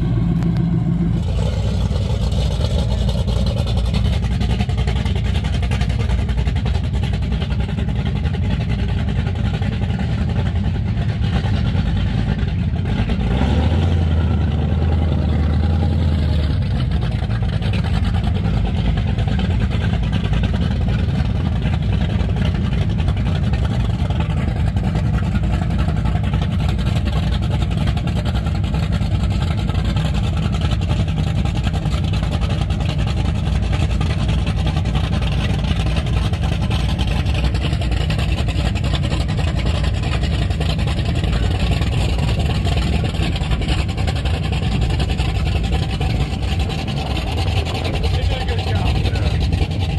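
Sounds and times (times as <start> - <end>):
boat engines idling: 0.0 - 49.9.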